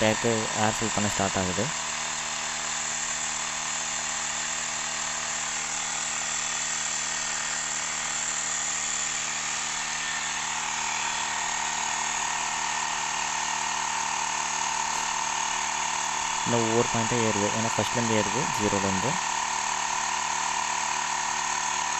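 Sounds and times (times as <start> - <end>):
air compressor buzzing and whining: 0.0 - 21.9.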